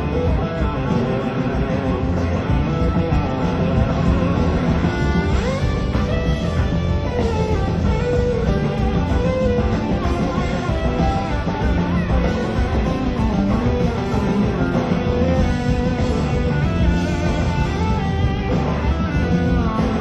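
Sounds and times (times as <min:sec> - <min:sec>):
electric guitar lead lines: 0:00.0 - 0:20.0
live rock band playing: 0:00.0 - 0:20.0.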